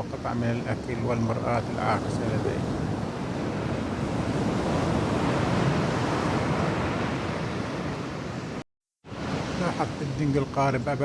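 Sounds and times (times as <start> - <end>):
sea waves: 0.0 - 11.0
wind: 0.0 - 11.0.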